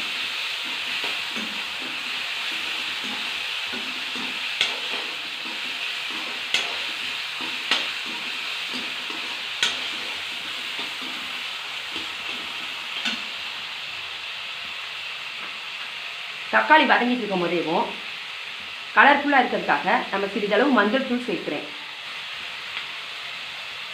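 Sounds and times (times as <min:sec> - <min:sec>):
vegetables sizzling in hot oil: 0:00.0 - 0:23.9.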